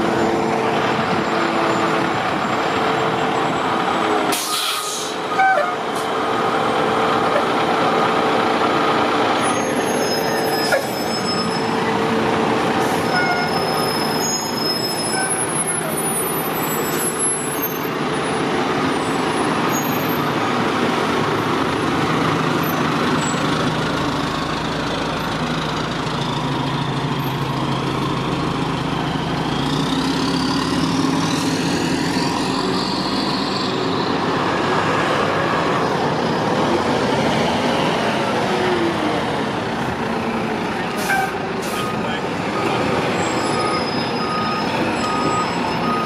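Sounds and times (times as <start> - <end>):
diesel engine driving off: 0.0 - 46.0.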